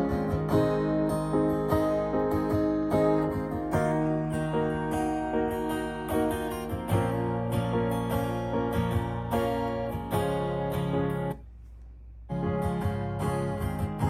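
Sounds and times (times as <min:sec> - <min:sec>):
strummed guitar with a beat: 0:00.0 - 0:14.0.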